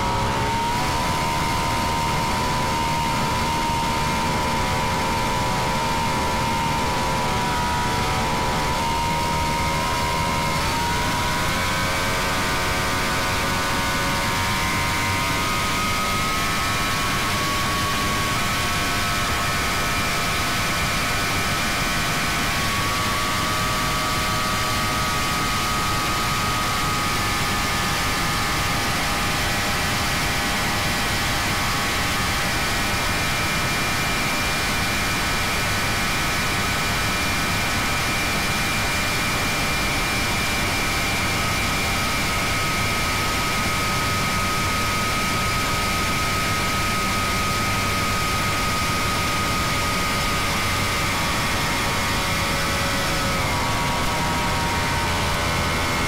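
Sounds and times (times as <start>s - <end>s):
powerboat engine drone: 0.0s - 56.0s.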